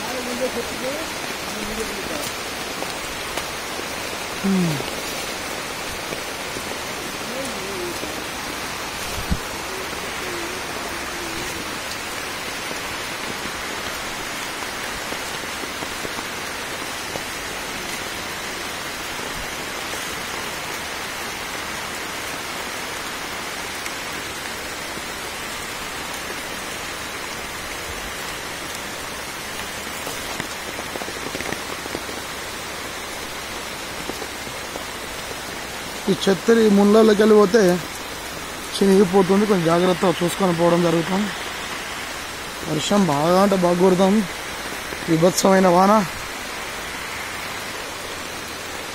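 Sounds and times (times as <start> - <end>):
heavy rain on foliage: 0.0 - 48.9.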